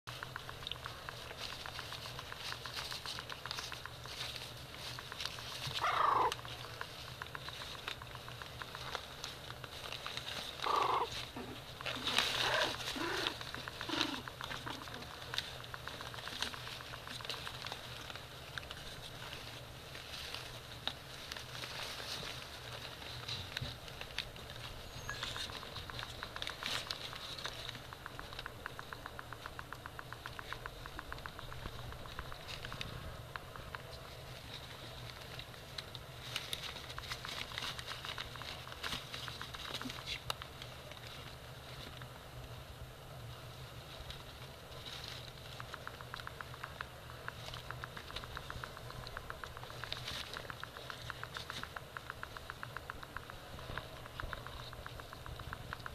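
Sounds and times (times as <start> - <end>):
puppies clicking and shuffling: 0.1 - 42.6, 43.2 - 55.9.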